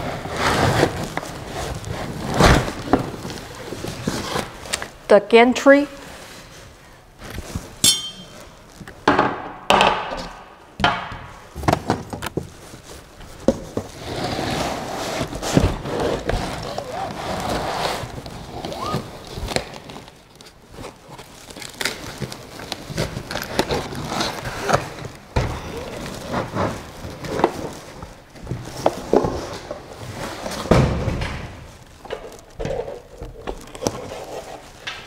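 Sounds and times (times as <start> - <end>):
foam and cardboard rustling: 0.0 - 5.0, 11.5 - 35.0.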